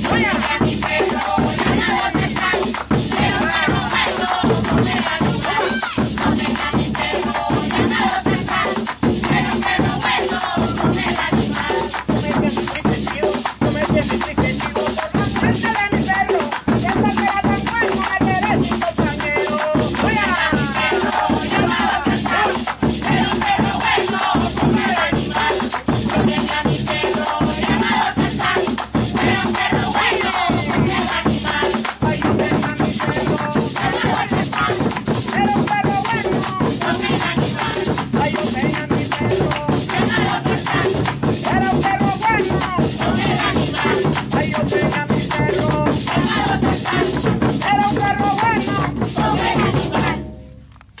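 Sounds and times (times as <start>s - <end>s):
hand clapping: 0.0s - 49.6s
voices singing: 0.0s - 50.3s
drum beaten with a stick: 0.0s - 50.7s
rattling percussion: 0.0s - 51.0s.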